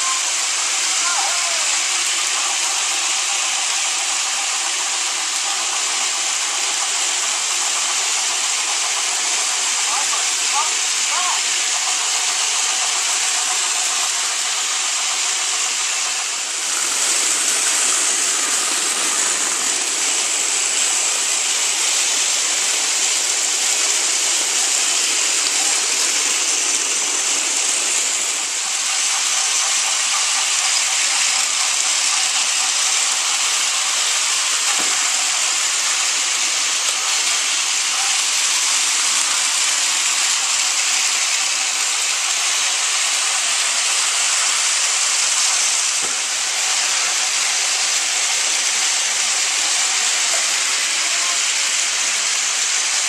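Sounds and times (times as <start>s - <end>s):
toy train engines whirring: 0.0s - 53.0s.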